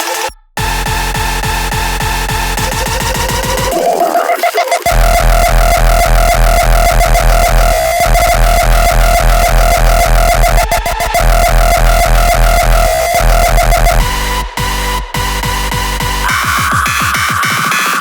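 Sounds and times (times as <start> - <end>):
synth lead tone: 0.0 - 17.6
deep bass: 0.3 - 3.7, 4.9 - 16.8
heavy kick drums: 0.6 - 3.7, 4.9 - 17.8.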